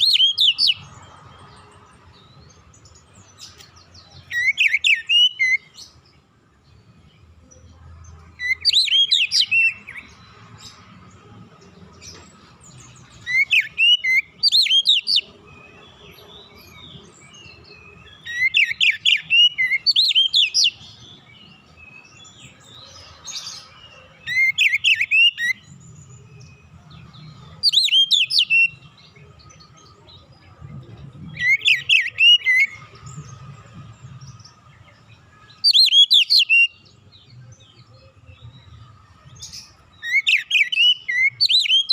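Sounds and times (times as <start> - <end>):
bird singing sweeping chirps: 0.0 - 7.3, 8.3 - 41.9.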